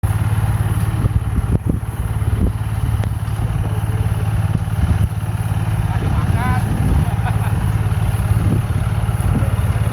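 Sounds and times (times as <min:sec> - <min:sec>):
combine harvester engine running: 0:00.0 - 0:09.9.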